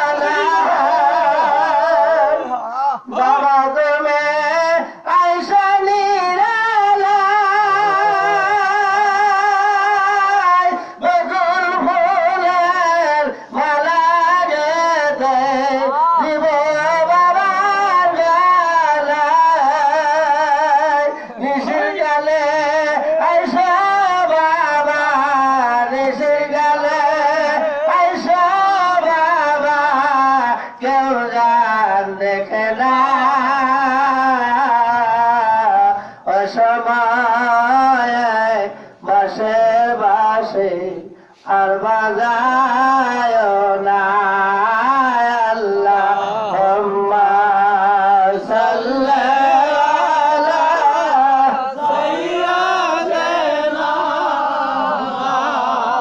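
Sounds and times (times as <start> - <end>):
man singing with vibrato: 0.0 - 56.0.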